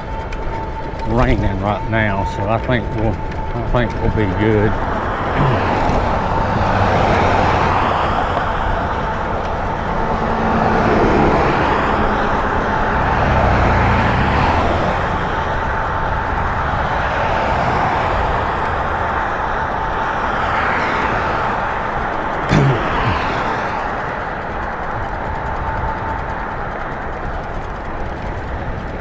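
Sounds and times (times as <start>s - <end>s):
road and traffic noise: 0.0s - 29.0s
steady whine: 0.0s - 29.0s
wind rushing over microphone: 0.0s - 29.0s.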